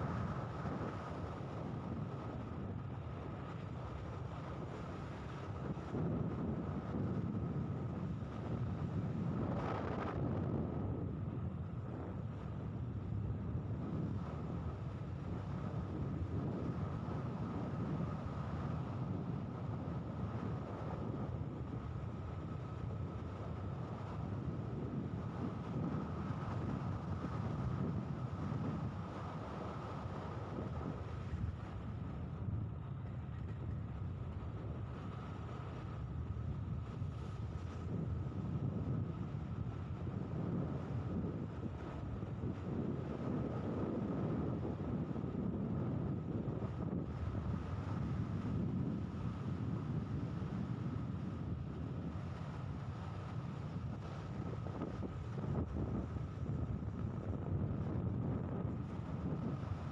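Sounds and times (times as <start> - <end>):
engine running steadily: 0.0 - 59.9
wind rumbling on microphone: 0.0 - 59.9.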